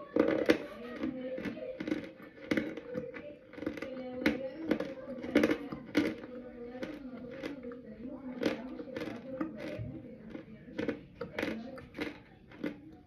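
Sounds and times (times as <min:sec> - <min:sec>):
wet crunchy chewing: 0:00.0 - 0:13.0.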